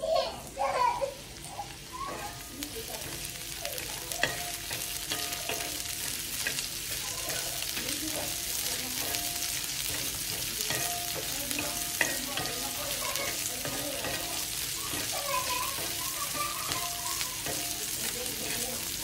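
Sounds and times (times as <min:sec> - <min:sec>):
onions frying in oil: 0:00.0 - 0:19.0
spatula clinking on pan: 0:02.0 - 0:19.0.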